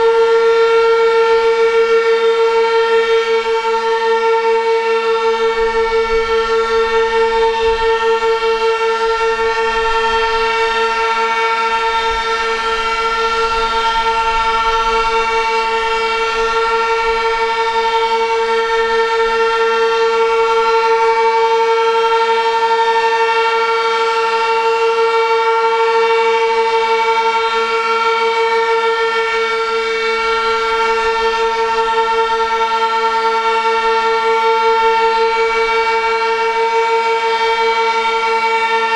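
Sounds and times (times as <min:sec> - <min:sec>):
warning siren high tone: 0:00.0 - 0:38.9.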